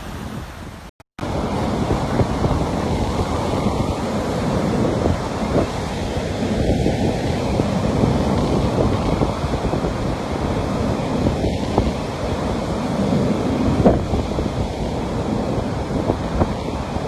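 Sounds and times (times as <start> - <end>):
sea waves washing on beach: 0.0 - 17.0
wind buffeting microphone: 0.0 - 17.0.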